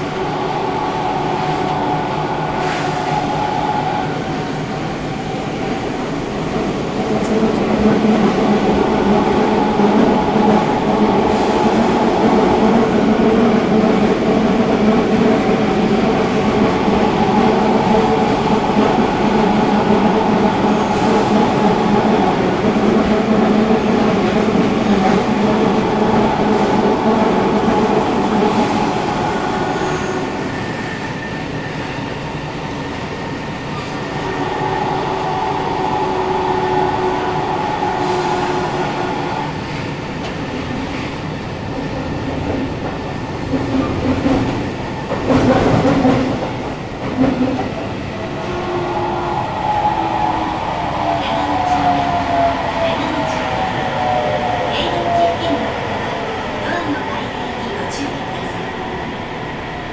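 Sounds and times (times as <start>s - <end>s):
train motors and wheels on rail: 0.0s - 59.9s.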